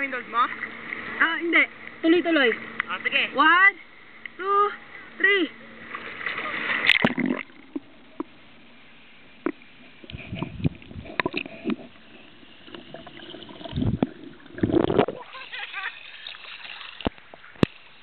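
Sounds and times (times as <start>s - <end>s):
water splashing and sloshing: 0.0s - 3.2s, 5.7s - 18.0s.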